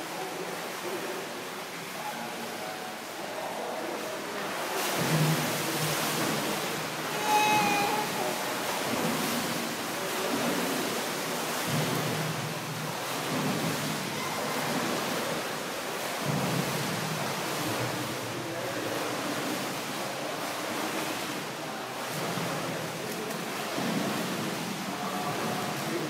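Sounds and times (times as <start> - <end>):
swimmer splashing water: 0.0 - 26.0.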